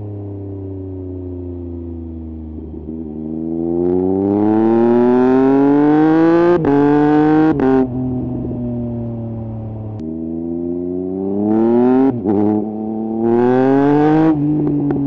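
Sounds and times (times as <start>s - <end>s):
motorcycle engine revving: 1.7s - 15.0s.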